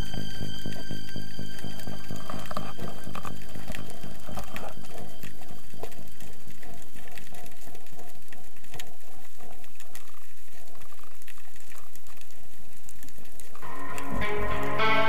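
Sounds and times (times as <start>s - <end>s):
underwater clicks and crackles: 0.0s - 14.9s
underwater water wash: 0.0s - 15.0s.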